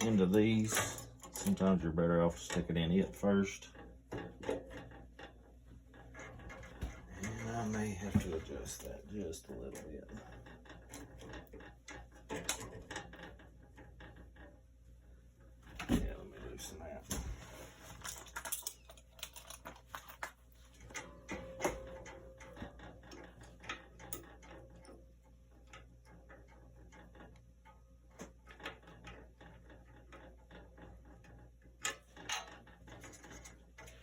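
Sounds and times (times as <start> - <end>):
small metallic rattles: 0.0 - 34.0.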